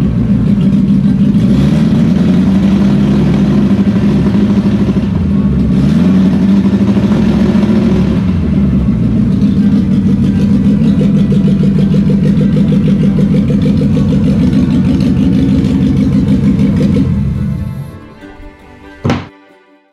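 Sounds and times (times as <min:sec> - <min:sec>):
car engine running steadily: 0:00.0 - 0:18.5.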